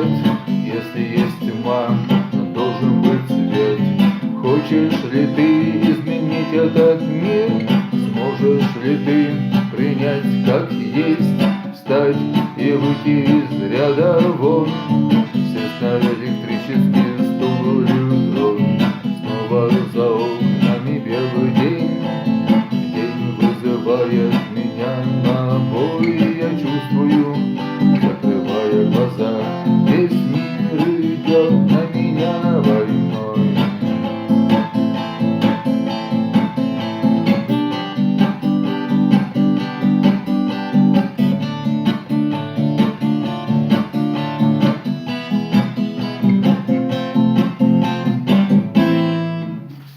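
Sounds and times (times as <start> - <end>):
guitars strumming chords: 0.0 - 49.9.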